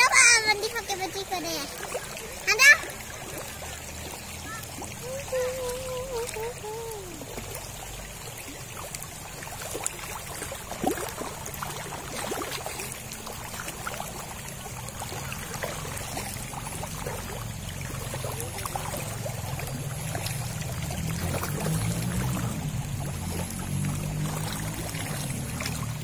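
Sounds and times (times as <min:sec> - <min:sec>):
fish splashing at surface: 0:00.0 - 0:26.0
river flowing: 0:00.0 - 0:26.0.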